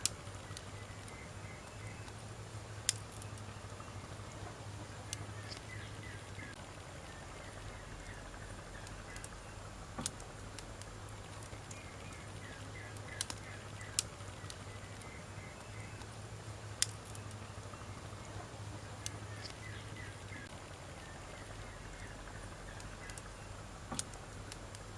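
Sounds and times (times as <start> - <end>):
campfire crackling and popping: 0.0 - 24.9
faint chirping: 0.0 - 24.9
low steady hiss: 0.0 - 24.9.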